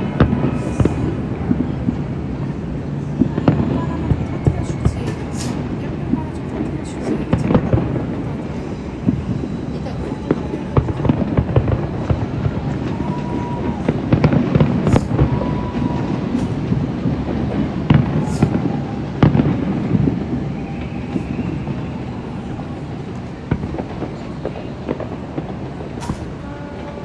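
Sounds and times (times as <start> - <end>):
distant fireworks bangs and crackles: 0.0 - 27.0
steady low rumble: 0.0 - 27.0.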